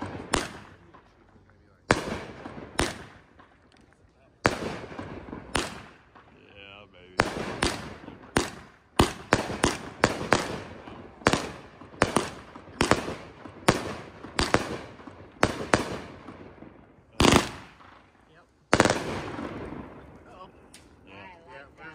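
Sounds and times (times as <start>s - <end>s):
fireworks bangs: 0.0s - 21.9s.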